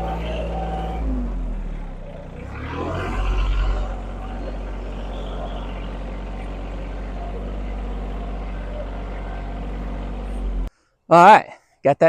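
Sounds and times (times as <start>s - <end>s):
engine running at low speed: 0.0s - 10.7s.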